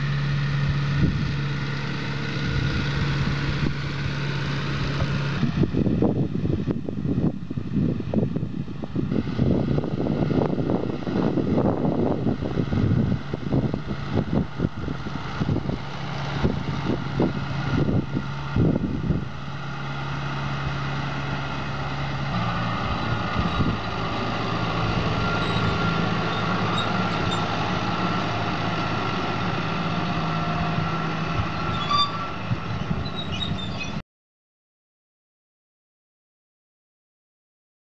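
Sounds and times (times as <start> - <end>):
tractor engine running: 0.0 - 34.0
rough gusty noise: 2.1 - 34.0.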